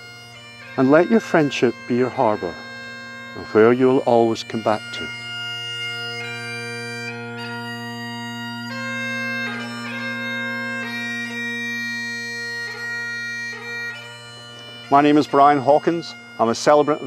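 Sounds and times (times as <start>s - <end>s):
bagpipe drone: 0.0s - 17.0s
bagpipe melody: 0.0s - 17.0s.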